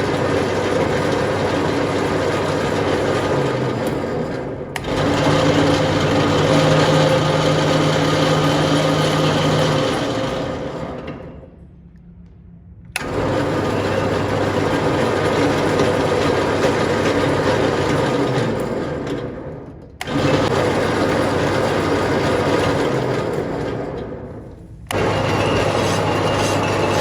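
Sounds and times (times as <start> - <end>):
motor-driven machine running: 0.0 - 11.4, 12.8 - 19.1, 20.0 - 27.0.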